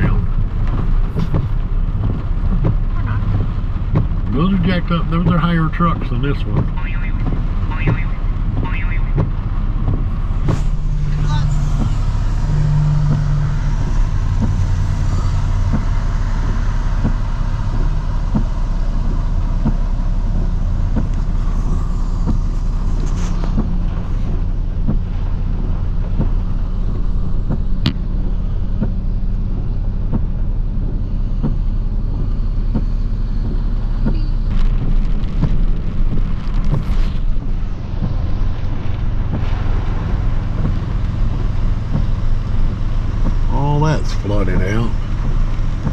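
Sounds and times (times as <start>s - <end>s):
truck engine idling: 4.5s - 45.9s
rushing noise: 6.6s - 45.9s.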